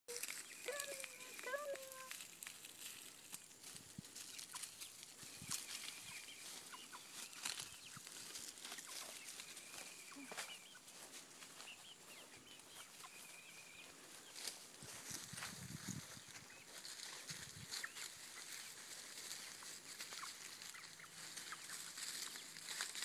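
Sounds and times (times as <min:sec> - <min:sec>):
high chick peeps: 0:00.1 - 0:23.0.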